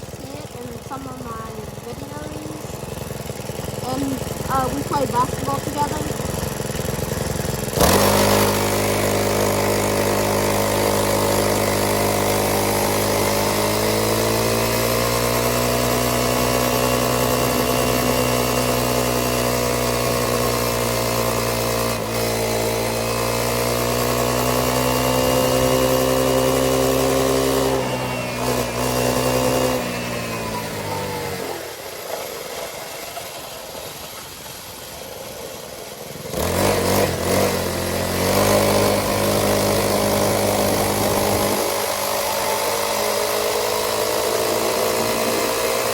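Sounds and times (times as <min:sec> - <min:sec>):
small gasoline engine running: 0:00.0 - 0:45.9.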